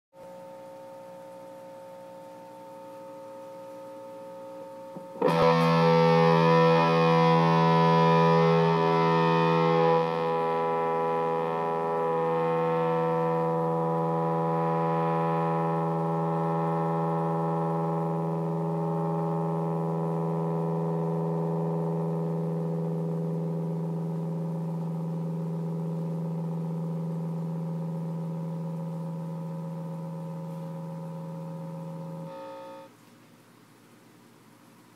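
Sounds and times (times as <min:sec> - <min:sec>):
distorted electric guitar tone: 0:00.2 - 0:33.0.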